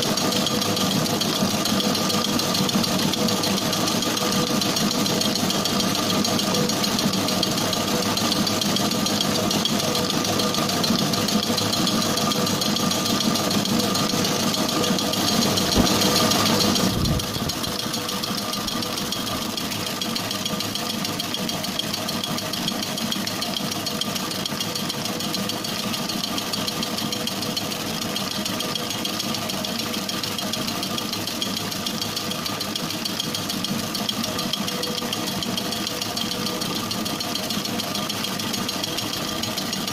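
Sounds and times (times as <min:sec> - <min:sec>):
mixer motor hum: 0:00.0 - 0:39.9
mixer whisk beating batter: 0:00.0 - 0:39.9.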